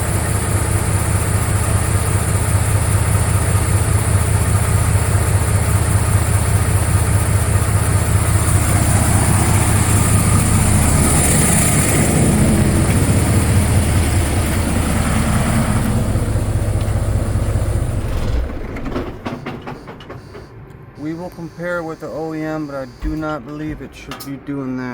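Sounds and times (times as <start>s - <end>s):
diesel engine humming: 0.0s - 24.9s.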